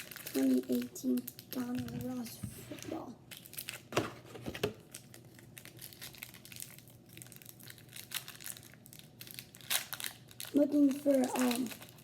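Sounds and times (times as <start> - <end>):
foil wrapper crinkling and tearing: 0.0 - 4.0, 4.8 - 12.0.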